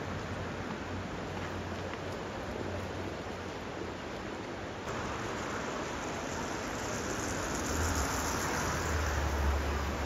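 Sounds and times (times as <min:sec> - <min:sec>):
fast river rushing: 0:00.0 - 0:10.0.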